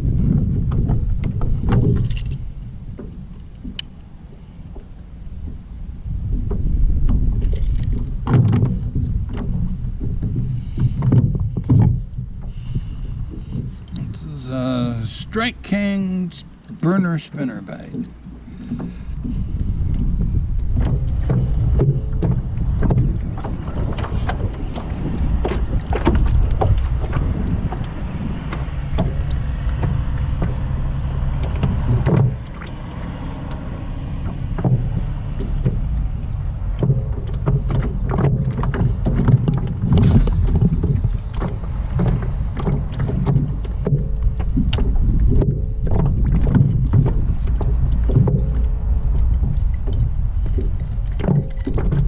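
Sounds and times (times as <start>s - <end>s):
knocks and clicks from hull: 0.0s - 52.0s
wind and water rumble: 0.0s - 52.0s.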